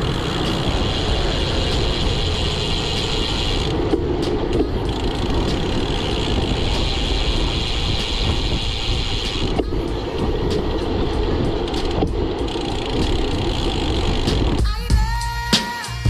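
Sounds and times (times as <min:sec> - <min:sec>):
wind and road noise from bicycle: 0:00.0 - 0:14.9.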